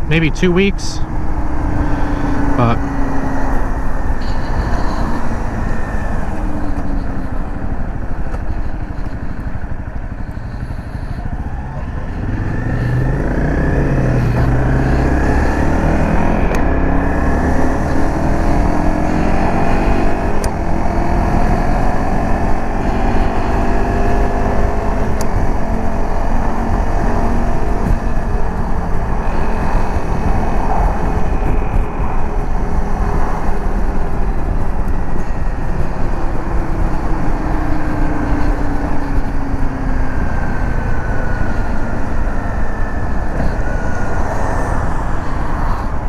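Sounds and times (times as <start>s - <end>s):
dirt bike engine: 0.0s - 46.0s
road and wind noise: 0.0s - 46.0s.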